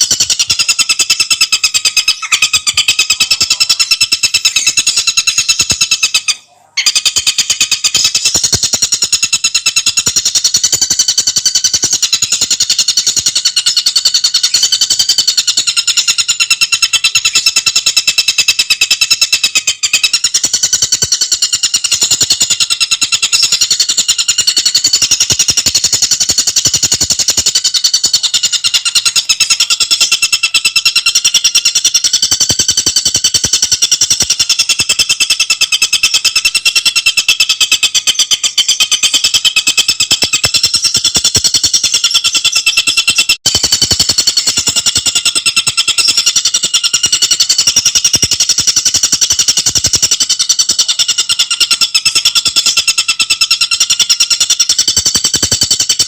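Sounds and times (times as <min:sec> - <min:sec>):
bird rattling trill: 0:00.0 - 0:56.0.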